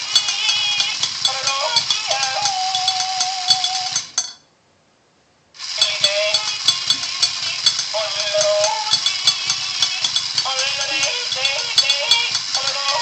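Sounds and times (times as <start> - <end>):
toy playing yodel song: 0.0 - 4.1, 5.6 - 13.0.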